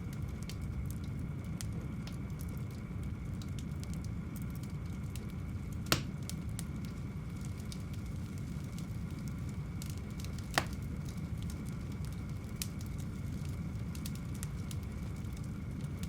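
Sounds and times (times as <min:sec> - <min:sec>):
wood fire burning: 0:00.0 - 0:16.0.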